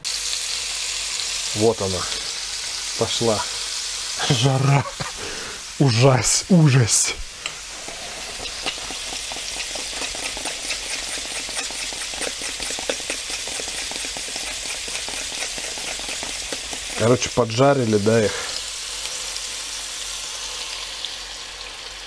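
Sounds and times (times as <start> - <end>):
oil sizzling and crackling: 0.0 - 22.0.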